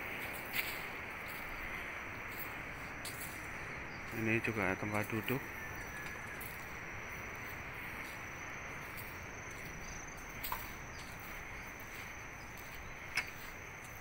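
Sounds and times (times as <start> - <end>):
high insect drone: 0.0 - 14.0
steady beach hiss: 0.0 - 14.0.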